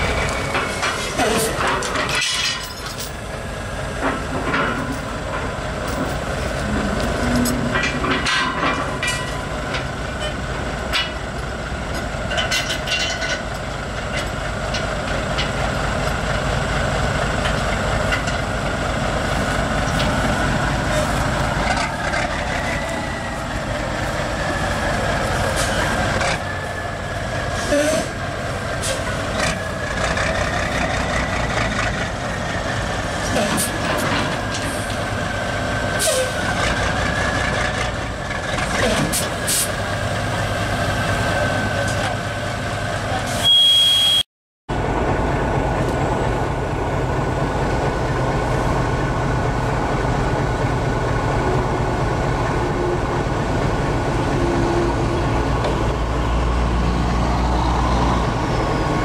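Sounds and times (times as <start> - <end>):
trailer knocks and clanks: 0.0 - 43.0, 44.7 - 56.4
diesel truck engine with whine: 0.0 - 59.0.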